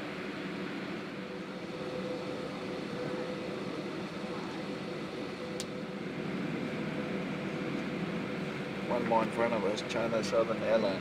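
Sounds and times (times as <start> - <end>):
aircraft cabin hum and air hiss: 0.0 - 11.0.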